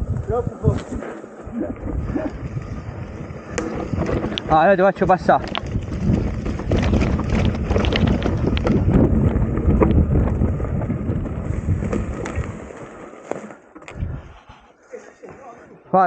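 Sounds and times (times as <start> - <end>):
wind buffeting microphone: 0.0 - 12.8, 13.9 - 14.6
bike rattling: 0.0 - 14.7
tyres rumbling over stones: 0.6 - 14.5.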